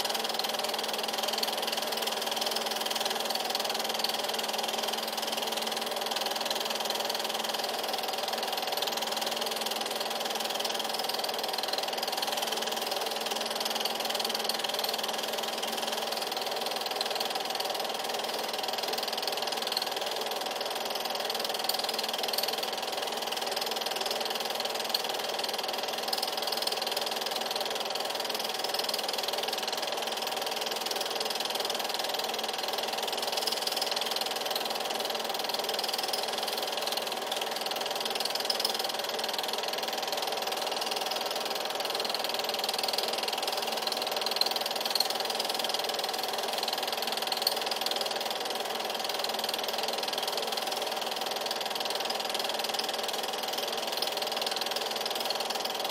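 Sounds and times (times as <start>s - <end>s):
film projector whirring: 0.0s - 55.9s.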